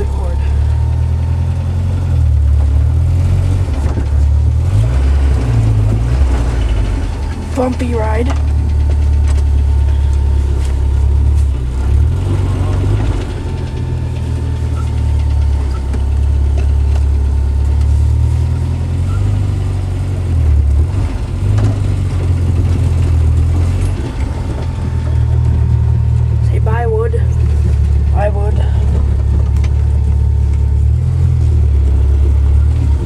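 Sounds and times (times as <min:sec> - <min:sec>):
car engine revving while driving: 0:00.0 - 0:33.0.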